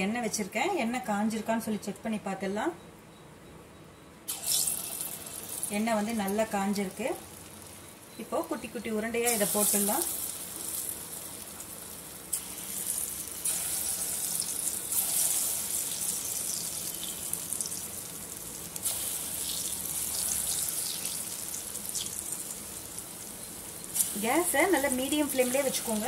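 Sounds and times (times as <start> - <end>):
hot oil sizzling: 4.3 - 26.0.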